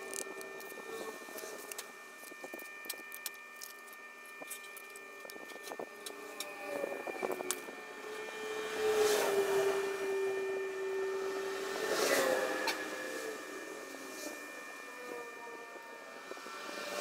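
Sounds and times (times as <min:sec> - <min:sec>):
steady faint hum: 0:00.0 - 0:17.0.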